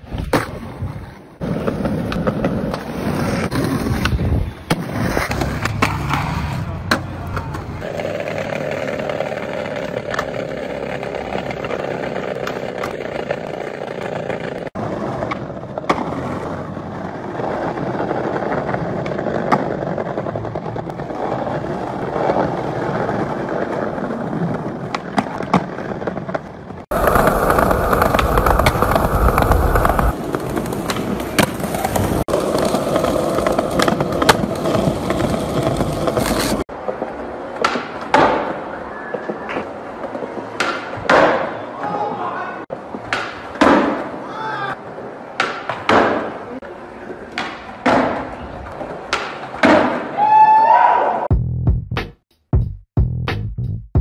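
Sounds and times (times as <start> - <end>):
skateboard wheels rolling on pavement: 0.0 - 51.3
skateboard clacking on ground: 1.4 - 50.2.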